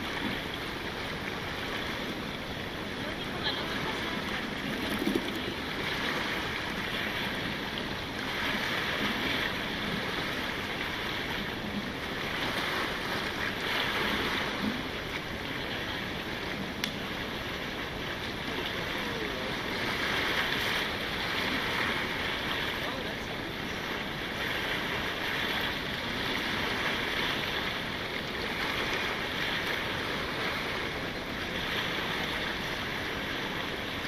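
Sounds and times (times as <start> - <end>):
waves washing onto stony shore: 0.0 - 34.0.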